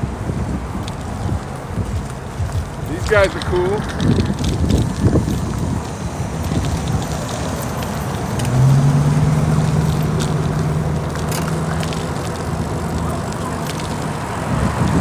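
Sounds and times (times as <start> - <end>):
vehicle engine humming: 0.0 - 15.0
wind and road noise: 0.0 - 15.0.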